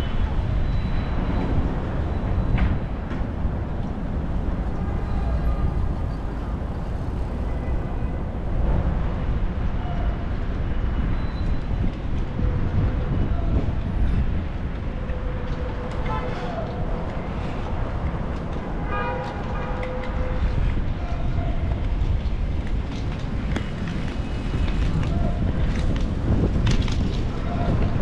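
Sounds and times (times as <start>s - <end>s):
deep rumble of traffic: 0.0s - 28.0s.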